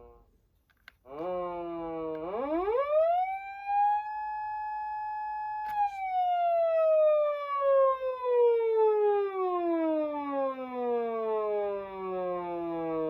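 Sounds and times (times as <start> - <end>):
electronic siren wail: 1.1 - 13.0.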